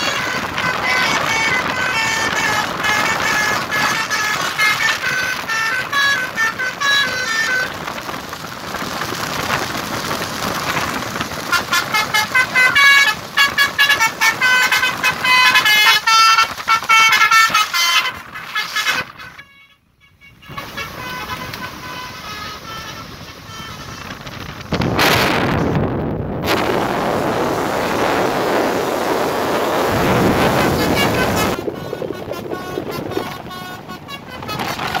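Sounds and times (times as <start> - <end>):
musical air horn toots: 0.0 - 8.2, 11.3 - 25.8, 26.4 - 35.0.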